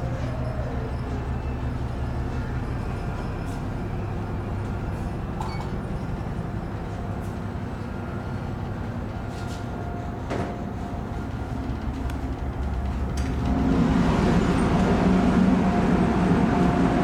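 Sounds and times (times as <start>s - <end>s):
ship engines droning: 0.0s - 17.0s.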